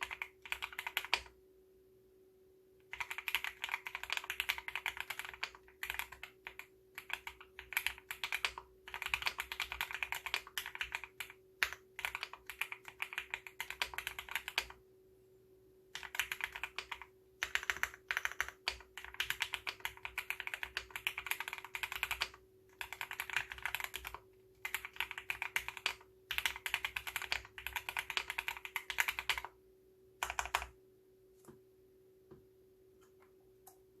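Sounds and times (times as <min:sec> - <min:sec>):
mechanical keyboard typing: 0:00.0 - 0:01.4, 0:02.8 - 0:14.8, 0:16.0 - 0:29.6, 0:30.2 - 0:30.8.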